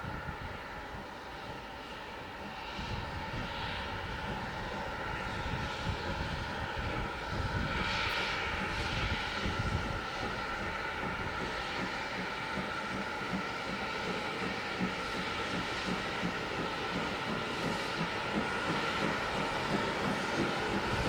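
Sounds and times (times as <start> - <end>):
steam locomotive rumbling: 0.0 - 21.0
steam hissing: 0.5 - 21.0.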